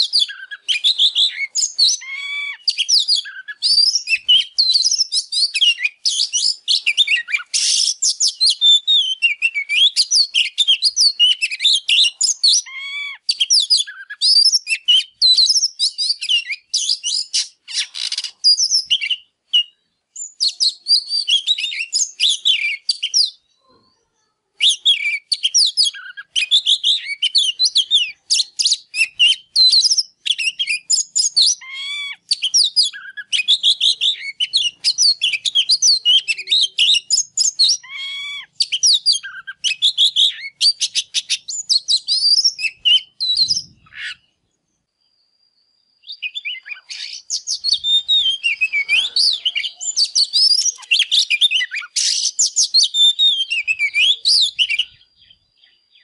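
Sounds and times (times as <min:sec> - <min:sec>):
magpie-robin singing: 0:00.0 - 0:56.0.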